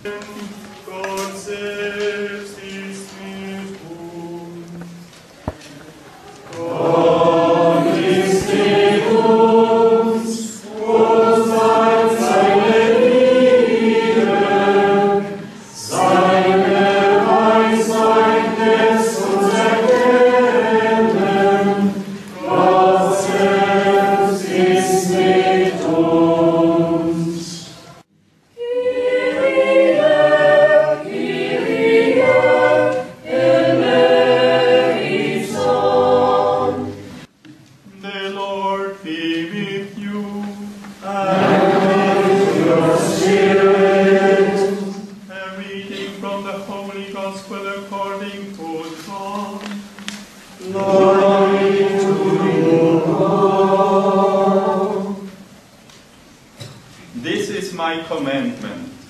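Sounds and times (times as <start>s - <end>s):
group singing unaccompanied: 0.0s - 5.6s, 6.4s - 37.3s, 37.9s - 55.6s.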